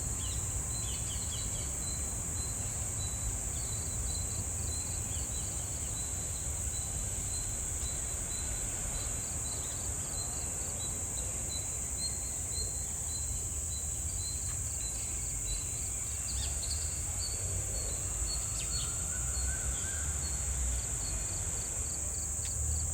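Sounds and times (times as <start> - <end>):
crickets chirping: 0.0 - 22.9
high-pitched insect hum: 0.0 - 22.9.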